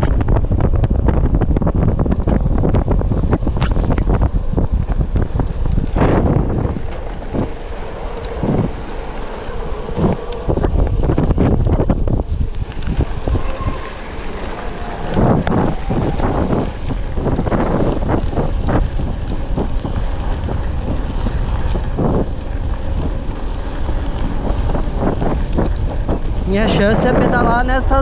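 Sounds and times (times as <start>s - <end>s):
bike rolling over dirt: 0.0s - 28.0s
wind buffeting microphone: 0.0s - 28.0s.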